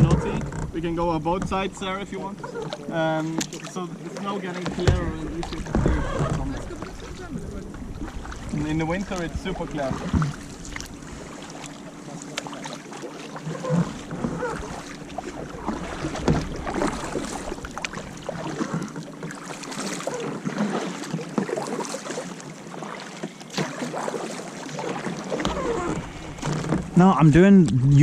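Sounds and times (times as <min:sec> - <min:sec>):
kayak paddles splashing in water: 0:00.0 - 0:27.4.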